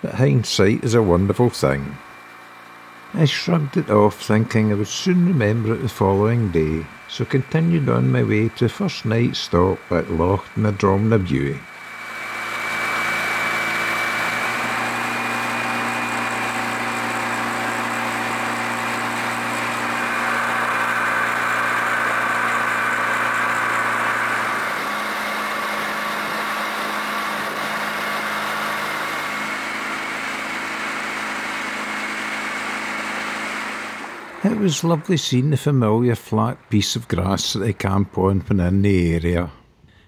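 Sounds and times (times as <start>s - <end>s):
outboard motor running: 0.0s - 38.1s.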